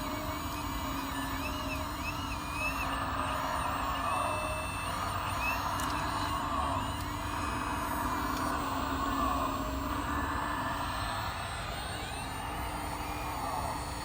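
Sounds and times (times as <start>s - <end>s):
hydraulic pump hum and hiss: 0.0s - 14.0s
hydraulic whine dipping in pitch: 0.0s - 14.0s.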